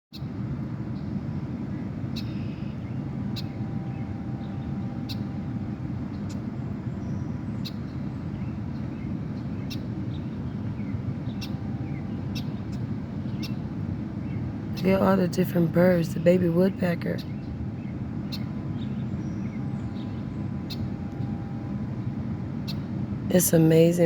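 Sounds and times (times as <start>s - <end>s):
low outdoor rumble: 0.2s - 24.0s.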